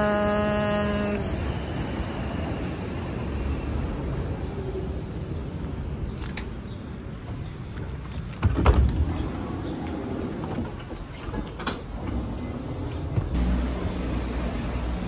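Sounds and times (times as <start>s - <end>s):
tram rumbling: 0.0s - 15.0s.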